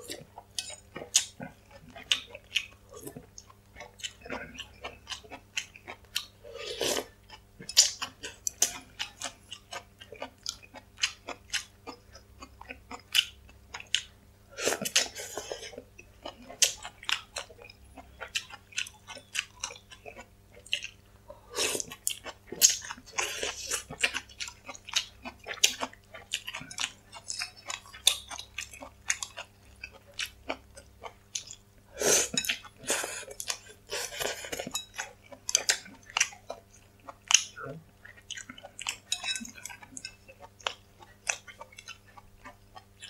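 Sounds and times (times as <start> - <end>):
chewing crunchy food: 0.0 - 43.0
faint steady hum: 0.0 - 43.0.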